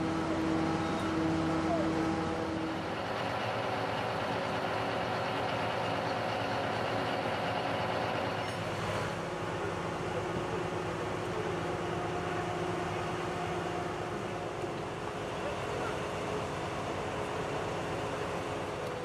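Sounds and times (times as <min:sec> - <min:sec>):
heavy diesel engines running: 0:00.0 - 0:19.0.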